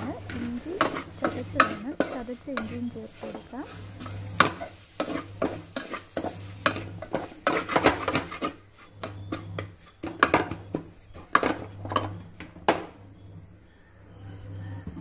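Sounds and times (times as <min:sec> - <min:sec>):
wooden spatula scraping metal pot: 0:00.0 - 0:12.6
steady low hum: 0:00.0 - 0:15.0.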